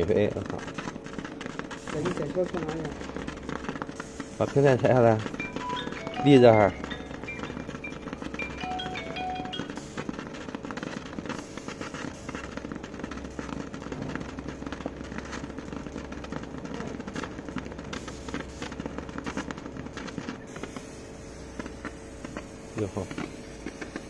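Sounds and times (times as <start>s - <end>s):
laser crackling: 0.0s - 24.0s
steady machine hum: 0.0s - 24.0s.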